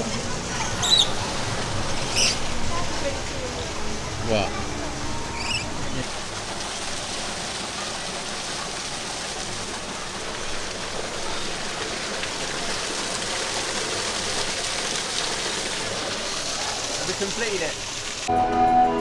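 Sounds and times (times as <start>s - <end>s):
running water hiss: 0.0s - 18.3s.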